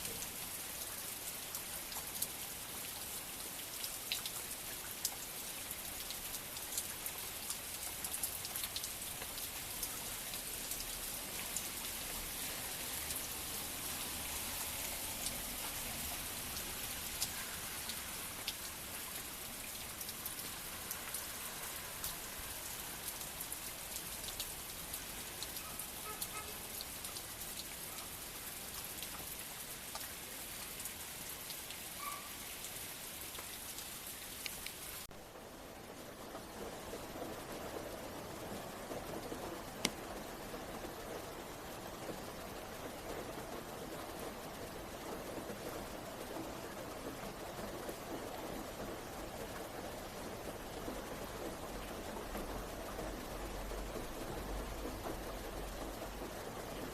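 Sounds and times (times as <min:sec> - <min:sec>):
raindrops ticking: 0:00.0 - 0:35.1, 0:39.6 - 0:56.9
heavy rain pouring: 0:00.0 - 0:56.9.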